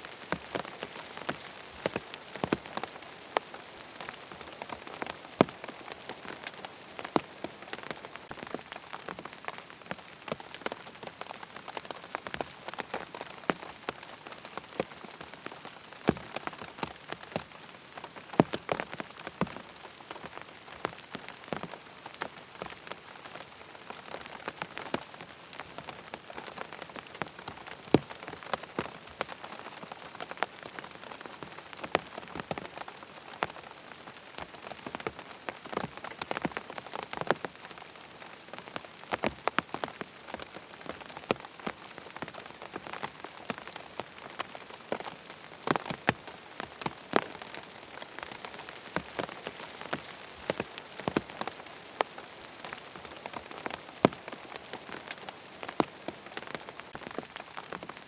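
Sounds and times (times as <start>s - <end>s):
raindrops tapping close by: 0.0s - 58.0s
steady rain falling: 0.0s - 58.0s.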